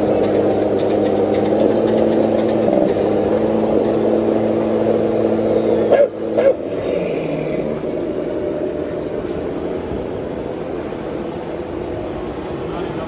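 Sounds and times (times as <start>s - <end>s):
diesel engine sound from speaker: 0.0s - 13.0s.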